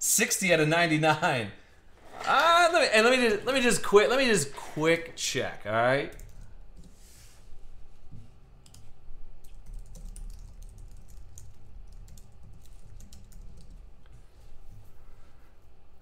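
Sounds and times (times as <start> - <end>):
low steady hum: 0.6 - 16.0.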